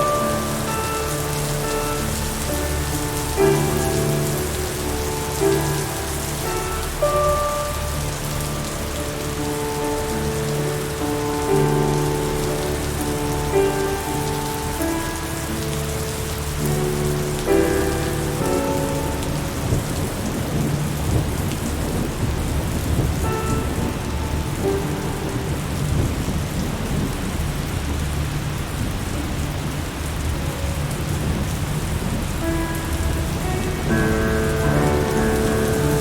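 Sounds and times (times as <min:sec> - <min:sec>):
rolling thunder rumble: 0:00.0 - 0:36.0
soft held musical notes: 0:00.0 - 0:36.0
steady rain falling: 0:00.0 - 0:36.0.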